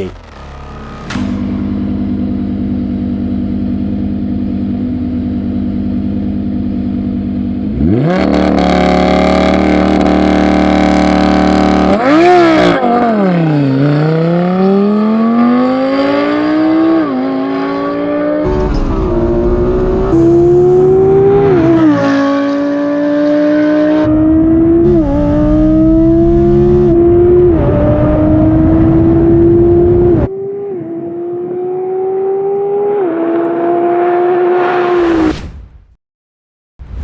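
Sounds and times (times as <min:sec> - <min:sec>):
racing car engines revving: 0:00.0 - 0:35.2.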